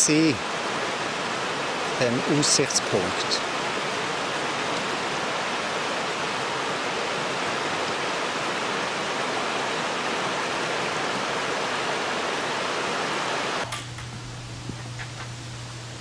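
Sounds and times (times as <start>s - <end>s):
creek rushing over rocks: 0.0s - 13.6s.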